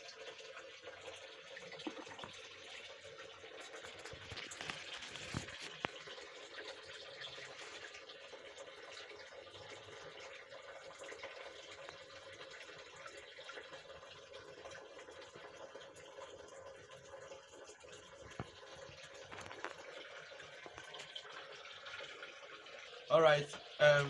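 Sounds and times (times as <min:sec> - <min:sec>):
water trickling: 0:00.0 - 0:24.0.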